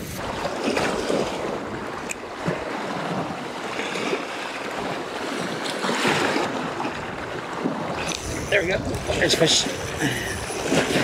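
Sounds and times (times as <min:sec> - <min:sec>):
waves lapping on rocky shore: 0:00.0 - 0:11.0
wind on the microphone: 0:00.0 - 0:11.0.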